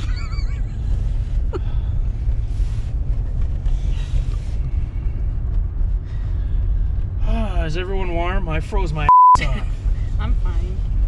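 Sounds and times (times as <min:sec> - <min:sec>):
vehicle rumble inside cabin: 0:00.0 - 0:11.0.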